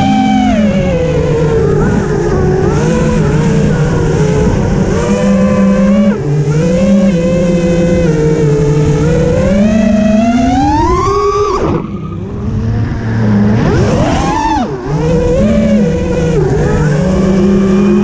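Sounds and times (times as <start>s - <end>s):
continuous rushing noise: 0.0s - 18.0s
vehicle engine running: 0.0s - 18.0s.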